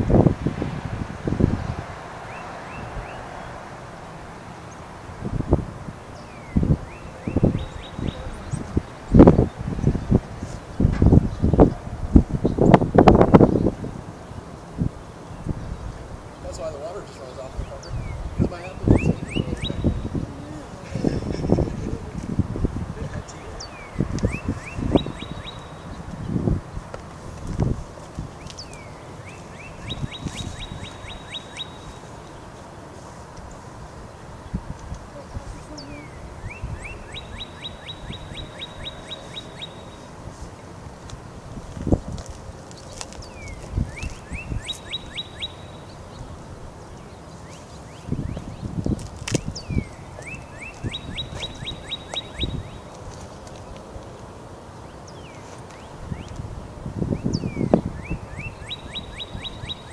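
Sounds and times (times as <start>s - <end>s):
songbird singing: 1.3s - 59.9s.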